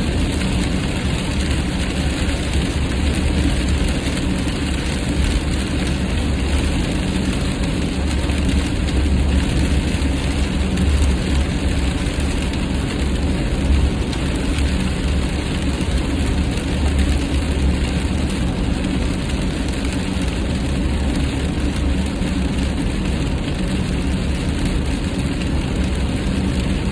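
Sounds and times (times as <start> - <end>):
rain and spray hiss: 0.0 - 26.9.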